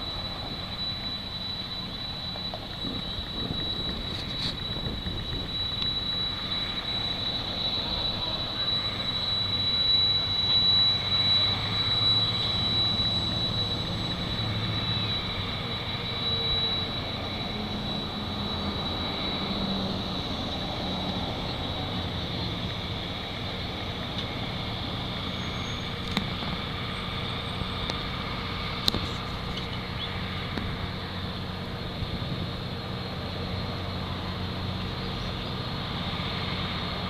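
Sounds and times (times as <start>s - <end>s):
high-pitched wheel squeal: 0.0s - 37.0s
train cars rumbling on rails: 0.0s - 37.0s.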